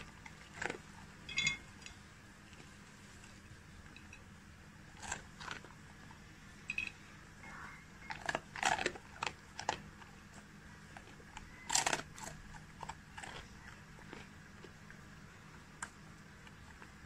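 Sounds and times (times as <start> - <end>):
dog chewing crunchy food: 0.0 - 17.0.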